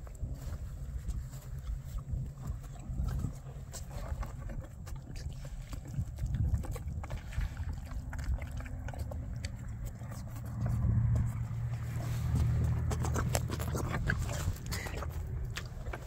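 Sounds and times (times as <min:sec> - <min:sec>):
horse slurping and chewing: 0:00.0 - 0:16.0
low rumble: 0:00.0 - 0:16.0.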